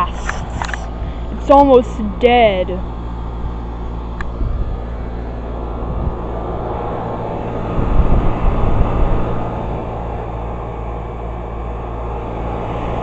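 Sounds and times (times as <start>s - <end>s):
air conditioner unit running: 0.0s - 13.0s.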